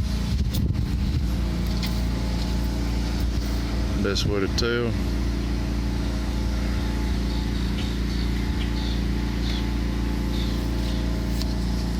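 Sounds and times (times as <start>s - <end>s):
pressure washer engine running: 0.0s - 11.9s.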